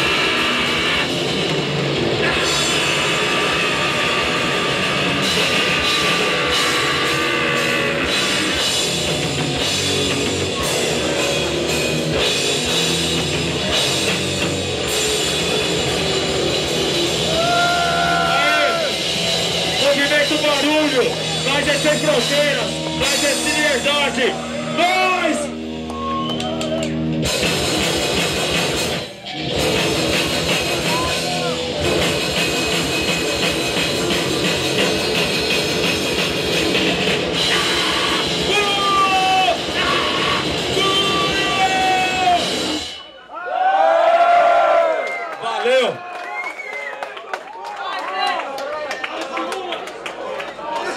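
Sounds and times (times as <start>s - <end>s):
electric guitar: 0.0s - 24.8s, 25.4s - 43.1s
drum kit: 0.0s - 43.2s
punk band playing live: 0.0s - 43.2s.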